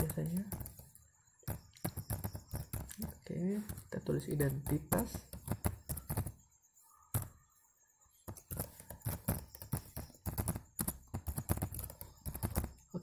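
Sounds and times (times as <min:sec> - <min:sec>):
typing on computer keyboard: 0:00.0 - 0:06.5, 0:08.3 - 0:13.0.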